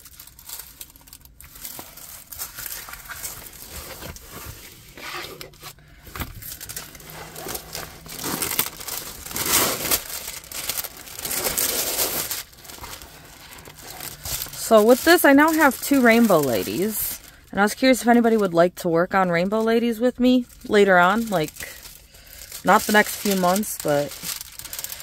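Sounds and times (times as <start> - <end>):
plastic film crinkling: 0.0 - 25.0.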